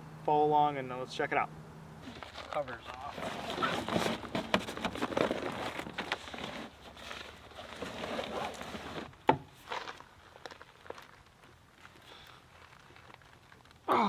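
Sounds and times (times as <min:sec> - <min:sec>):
rustling handling noise: 0:02.0 - 0:13.9.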